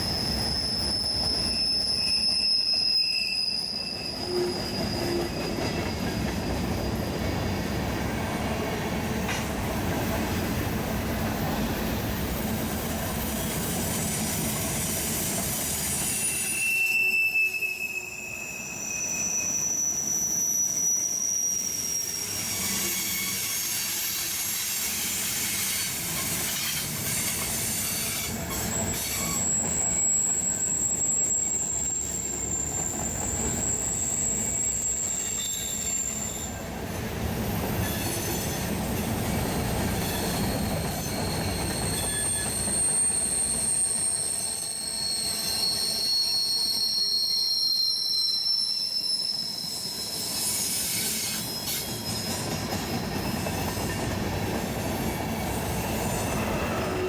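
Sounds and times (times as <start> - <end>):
railroad cars rumbling: 0.0 - 57.0
steel wheels squealing on rails: 0.0 - 57.0.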